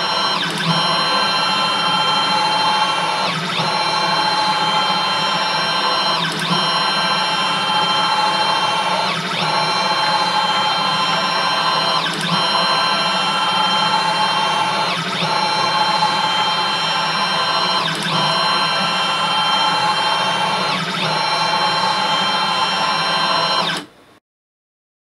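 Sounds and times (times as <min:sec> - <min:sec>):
stepper motors whining: 0:00.0 - 0:23.8.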